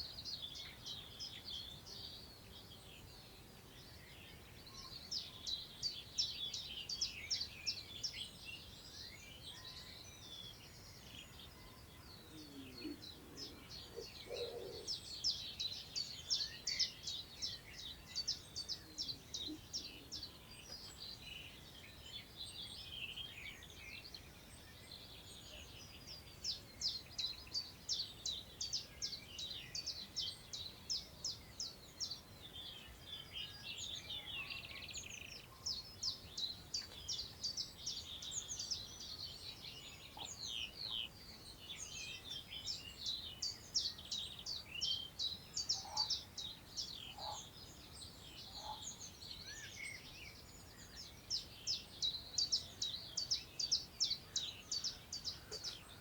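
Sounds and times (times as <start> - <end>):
songbirds singing in chorus: 0.0 - 56.0.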